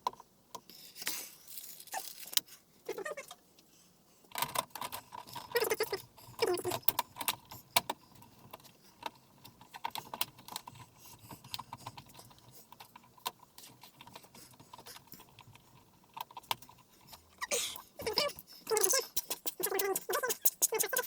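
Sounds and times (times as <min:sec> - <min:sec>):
small parts clicking and tapping: 0:00.0 - 0:02.6, 0:04.3 - 0:21.0.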